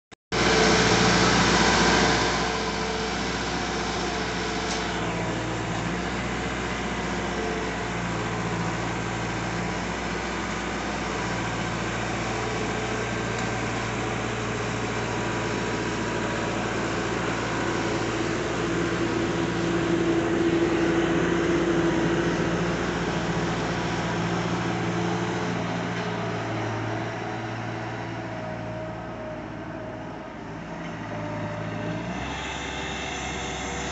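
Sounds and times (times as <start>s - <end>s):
diesel engine running: 0.4s - 33.9s.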